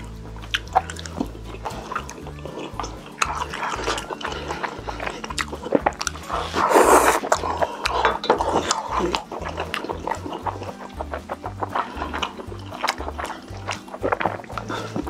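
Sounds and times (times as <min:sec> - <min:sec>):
rushing slurp: 0:00.0 - 0:15.0
wet chewing and biting: 0:00.0 - 0:15.0.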